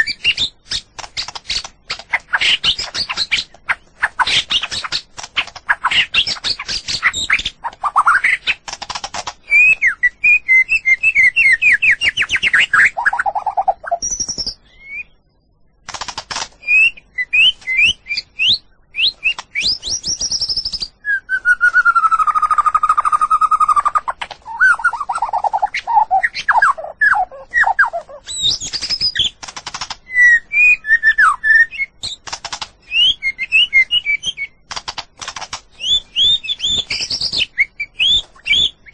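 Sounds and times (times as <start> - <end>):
bird singing whistled song: 0.0 - 5.0, 5.7 - 8.6, 9.4 - 15.5, 16.6 - 29.4, 30.0 - 32.2, 32.8 - 34.6, 35.7 - 38.9.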